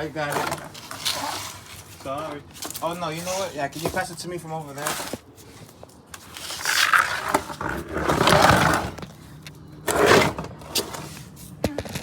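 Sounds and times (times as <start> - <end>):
plastic bucket scraping on ground: 0.2 - 4.1, 4.8 - 9.2, 9.8 - 11.3.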